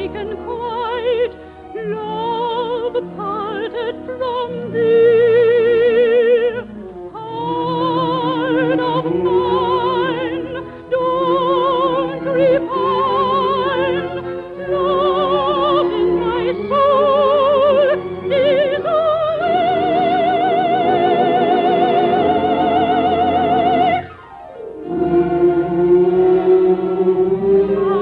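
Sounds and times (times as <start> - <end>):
operatic voice singing: 0.0 - 24.0, 24.8 - 28.0
orchestra playing: 0.0 - 28.0.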